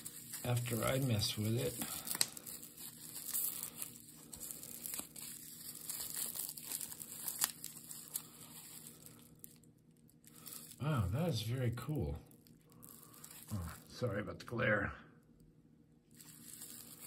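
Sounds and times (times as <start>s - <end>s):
plastic wrapping crinkling and tearing: 0.0s - 14.0s, 16.1s - 17.0s.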